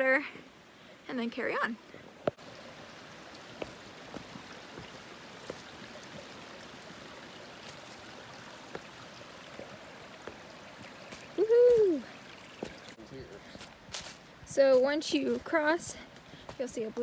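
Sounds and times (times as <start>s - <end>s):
stream running: 1.8s - 17.0s.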